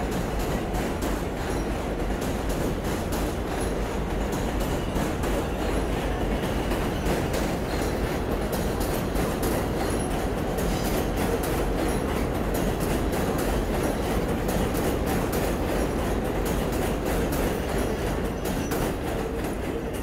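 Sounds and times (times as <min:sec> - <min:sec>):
subway train rumbling on rails: 0:00.0 - 0:20.0.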